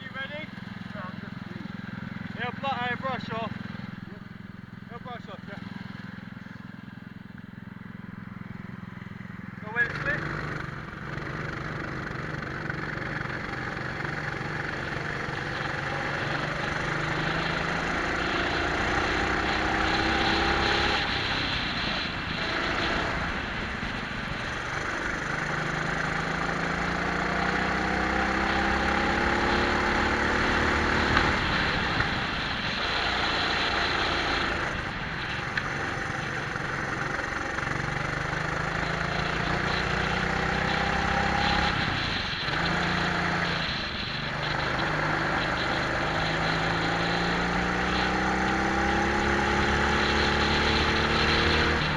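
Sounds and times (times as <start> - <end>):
kart engines revving: 0.0 - 51.9.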